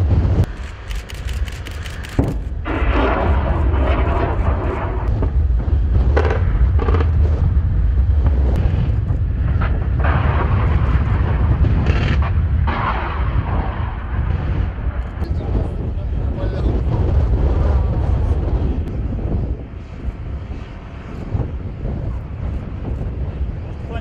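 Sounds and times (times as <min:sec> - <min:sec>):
heavy low rumble: 0:00.0 - 0:24.0
rocket motors roaring: 0:00.0 - 0:24.0.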